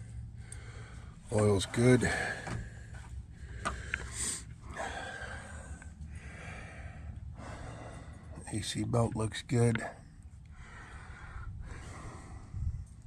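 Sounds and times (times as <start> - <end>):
man breathing and sniffing: 0.0 - 1.3, 2.0 - 8.4, 10.2 - 13.0.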